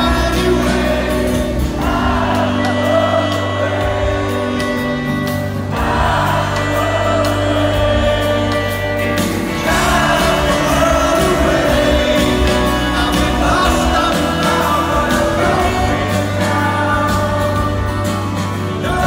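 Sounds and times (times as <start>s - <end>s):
live rock band: 0.0s - 19.0s
person singing: 0.0s - 19.0s
steady drum beat: 0.0s - 19.0s.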